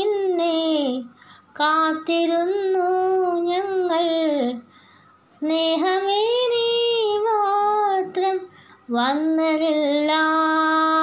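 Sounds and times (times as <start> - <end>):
woman singing unaccompanied: 0.0 - 4.7, 5.3 - 11.0.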